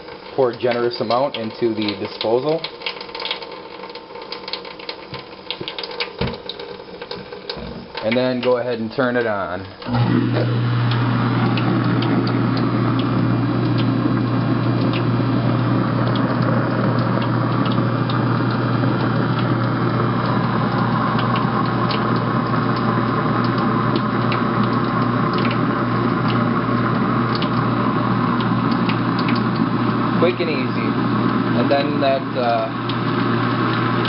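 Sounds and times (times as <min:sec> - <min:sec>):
garbage disposal motor hum: 0:00.0 - 0:34.0
trickle of water: 0:00.0 - 0:34.0.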